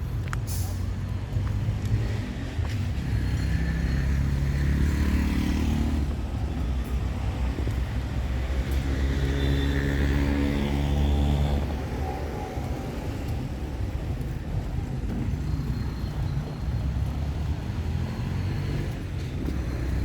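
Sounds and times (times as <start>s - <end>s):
steady low traffic rumble: 0.0s - 20.0s
vehicle engines passing: 0.0s - 20.0s.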